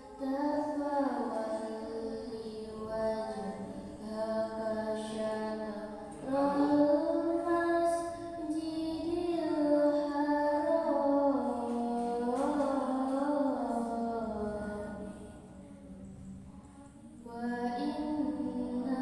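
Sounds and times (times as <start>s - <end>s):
girl chanting melodically: 0.0s - 19.0s.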